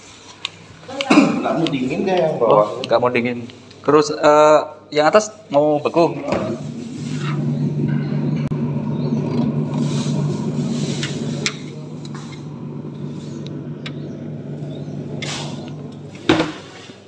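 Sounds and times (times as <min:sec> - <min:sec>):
refrigerator hum: 0:00.0 - 0:17.0.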